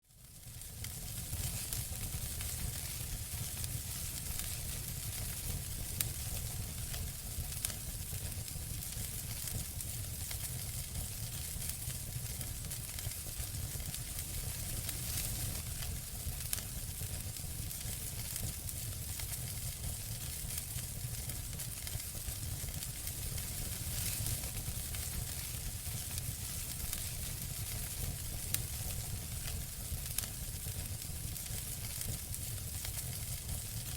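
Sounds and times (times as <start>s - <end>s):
campfire crackling and popping: 0.4s - 33.9s.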